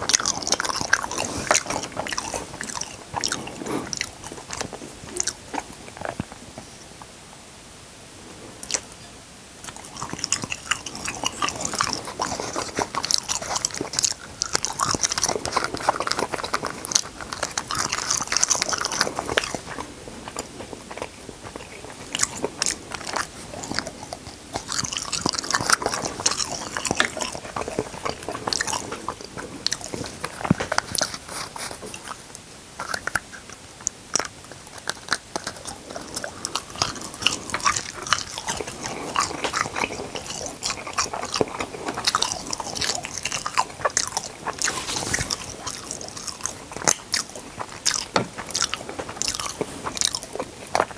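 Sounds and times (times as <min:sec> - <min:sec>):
crunchy chewing: 0:00.0 - 0:06.8, 0:08.6 - 0:50.9.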